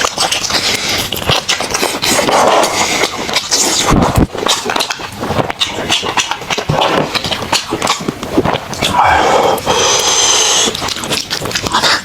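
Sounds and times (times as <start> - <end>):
chewing meat: 0.0 - 12.0.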